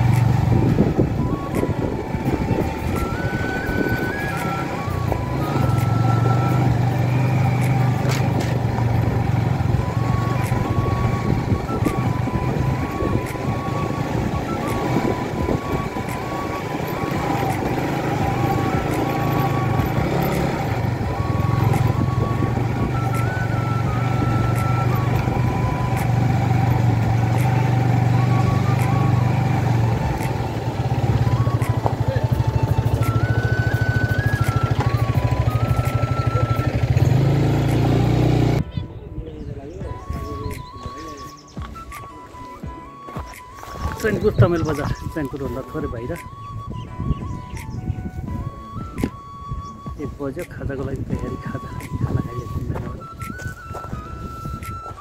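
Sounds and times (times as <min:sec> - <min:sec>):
vehicle engine hum: 0:00.0 - 0:38.9, 0:39.7 - 0:55.0
music playing: 0:00.0 - 0:55.0.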